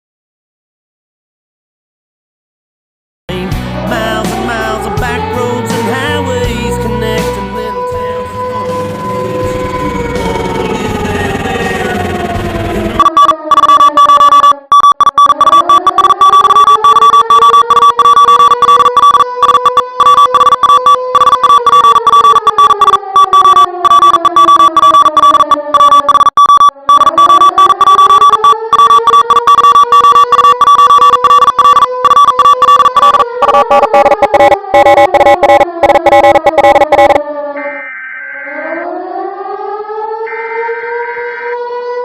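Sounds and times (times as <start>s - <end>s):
siren wail: 4.0s - 42.0s
steady high alarm tone: 6.2s - 41.8s.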